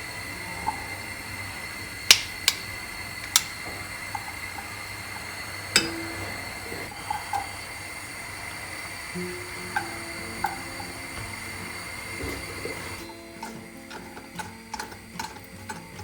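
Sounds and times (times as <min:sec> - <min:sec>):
faint hiss: 0:00.0 - 0:13.6.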